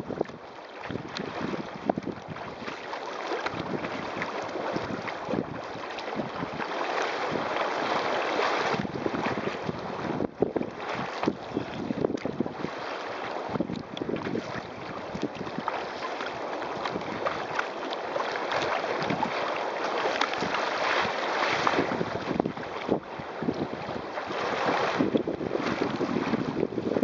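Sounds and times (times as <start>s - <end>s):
strong wind on microphone: 0.0s - 2.7s, 3.5s - 15.8s, 16.8s - 17.6s, 18.9s - 19.4s, 20.3s - 27.0s
water slapping against kayak hull: 0.0s - 27.0s.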